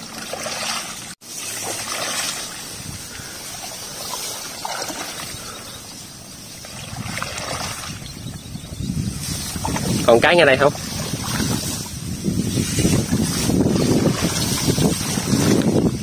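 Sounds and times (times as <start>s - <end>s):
wading through water and grass: 0.0s - 16.0s.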